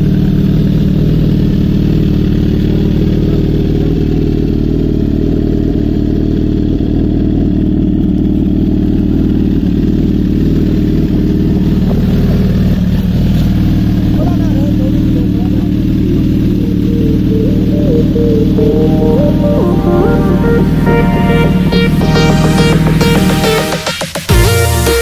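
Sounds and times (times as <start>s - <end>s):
motorcycle engine idling loudly: 0.0s - 19.8s, 20.6s - 25.0s.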